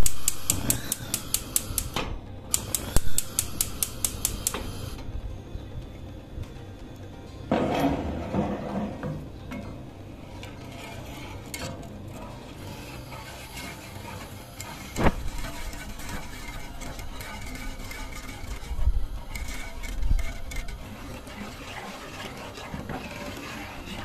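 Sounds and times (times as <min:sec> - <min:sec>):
wire whisk scraping a pan: 0:00.0 - 0:04.9, 0:07.9 - 0:24.0.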